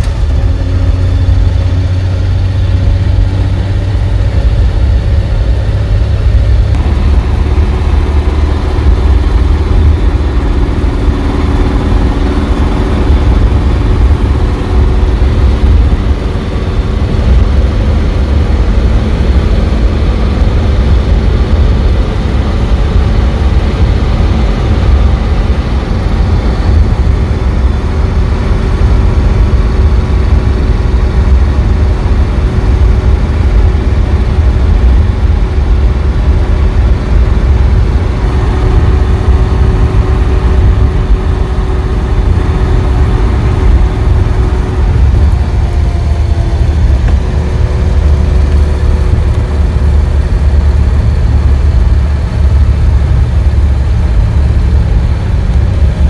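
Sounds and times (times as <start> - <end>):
road and wind noise rumble: 0.0 - 56.0
truck engine running: 0.0 - 56.0.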